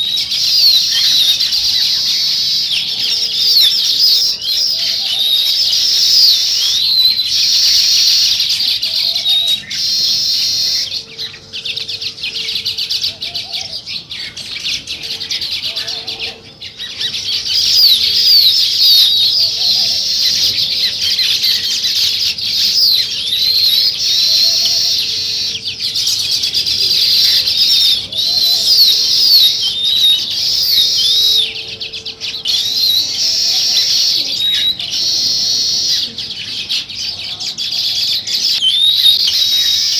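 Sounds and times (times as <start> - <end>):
faint low bird call: 0.0 - 39.9
sparrows chirping: 0.0 - 39.9.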